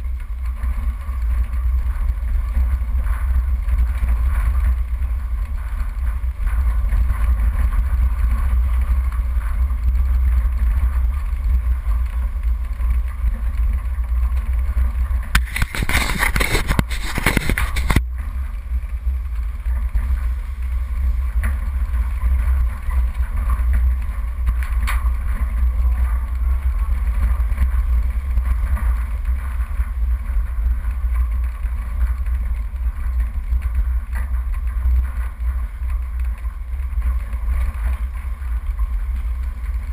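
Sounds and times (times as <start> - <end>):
vehicle engine rumble: 0.0 - 39.9
wind: 0.0 - 39.9.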